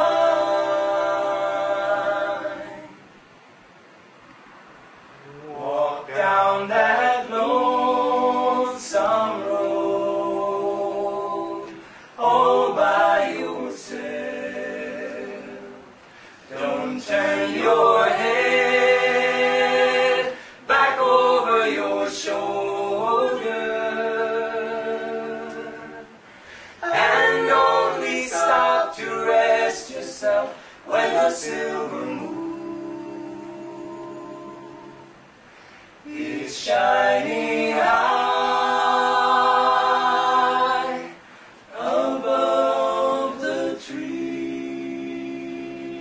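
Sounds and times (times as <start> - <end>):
a cappella group singing harmony: 0.0 - 3.3, 5.2 - 46.0.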